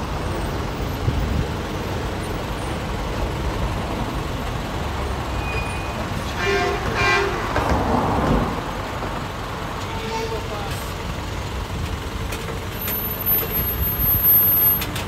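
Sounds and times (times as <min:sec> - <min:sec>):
low rumble of road vehicles: 0:00.0 - 0:15.0.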